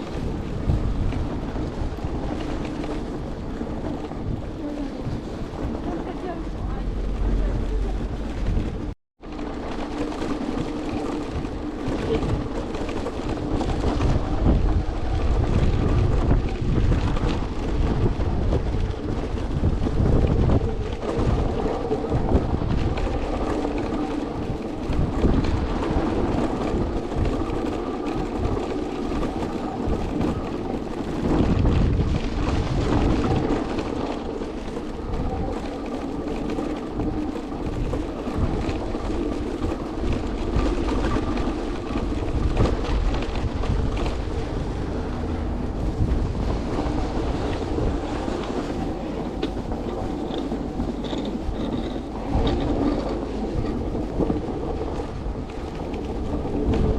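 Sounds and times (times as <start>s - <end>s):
wheels rumbling over snow: 0.0s - 56.9s
wind buffeting microphone: 0.0s - 56.9s.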